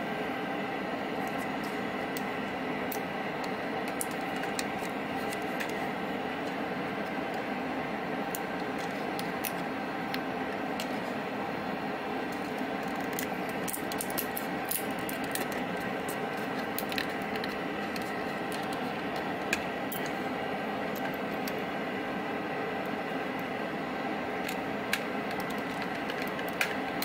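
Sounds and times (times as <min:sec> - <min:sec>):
background hum: 0:00.0 - 0:27.0.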